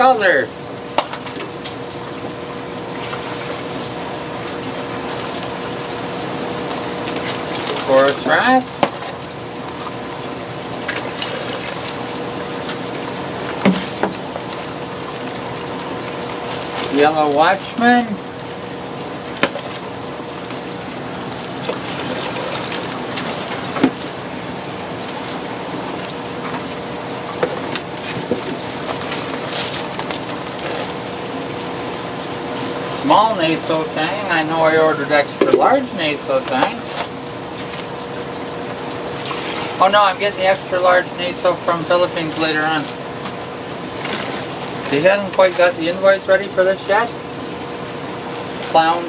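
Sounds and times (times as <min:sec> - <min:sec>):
aquarium water rushing: 0:00.0 - 0:49.0
pump hum: 0:00.0 - 0:49.0.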